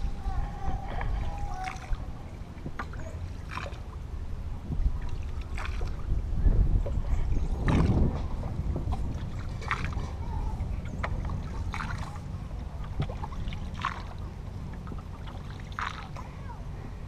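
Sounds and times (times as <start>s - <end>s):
paddle splashing water: 0.0s - 16.4s
wind rumble on microphone: 0.0s - 17.0s.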